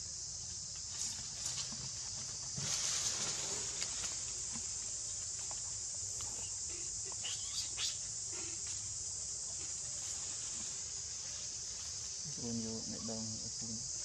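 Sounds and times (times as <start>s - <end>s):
faint insect chirps: 0.0s - 14.0s
insect chorus drone: 0.0s - 14.0s.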